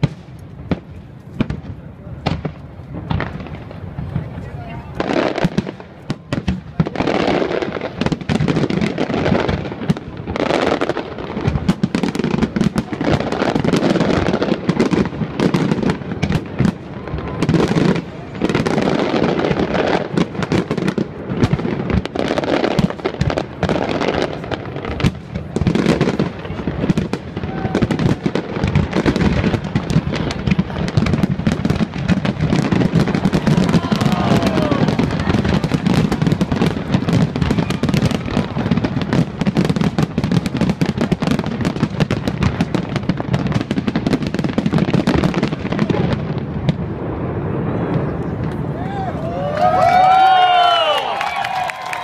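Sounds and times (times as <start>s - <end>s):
fireworks bursting: 0.0s - 52.0s.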